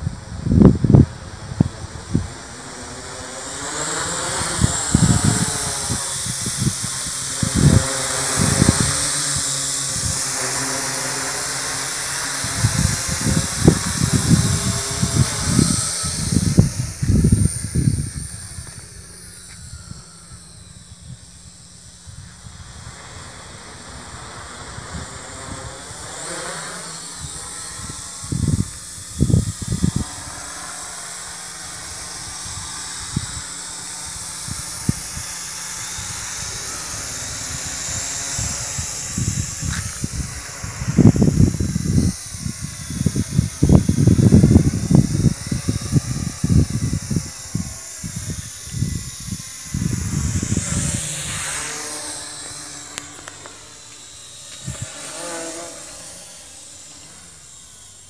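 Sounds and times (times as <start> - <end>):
wind buffeting microphone: 0.0 - 57.3
toy quadcopter rotors whirring: 0.0 - 58.0.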